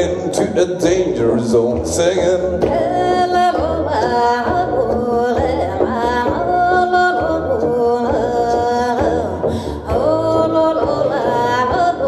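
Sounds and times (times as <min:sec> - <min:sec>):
plucked double bass: 0:00.0 - 0:12.0.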